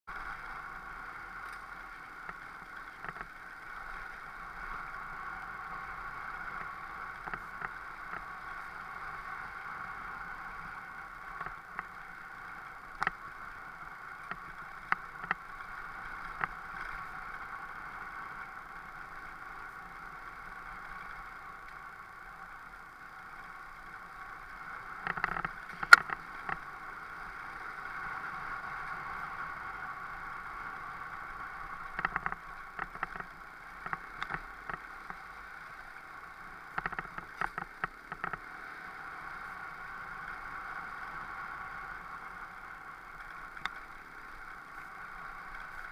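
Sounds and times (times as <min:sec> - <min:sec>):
motorcycle engine running: 0:00.1 - 0:45.9.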